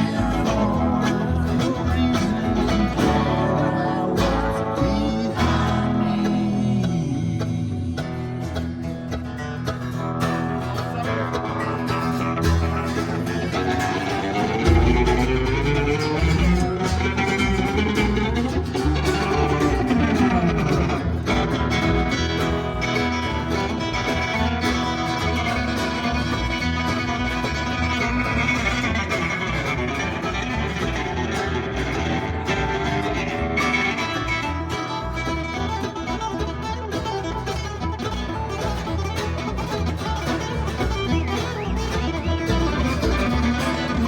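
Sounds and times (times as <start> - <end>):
live country band instrumental: 0.0 - 44.0.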